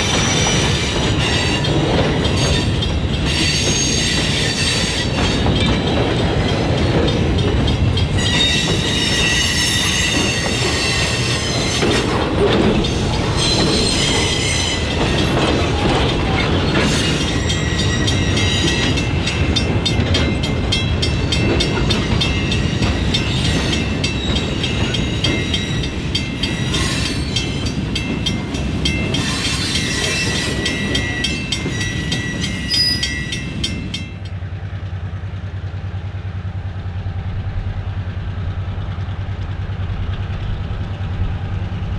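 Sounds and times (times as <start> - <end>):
train wheels squealing: 0.0 - 34.2
freight train rumble: 0.0 - 41.9
wheels clicking over rail joints: 0.0 - 41.9.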